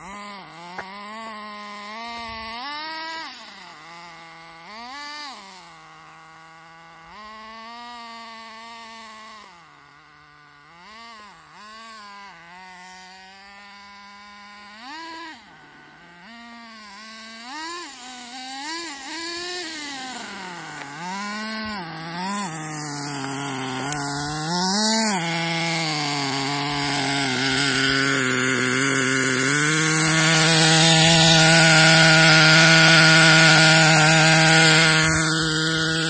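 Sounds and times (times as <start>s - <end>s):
nitro engine revving: 0.0s - 36.0s.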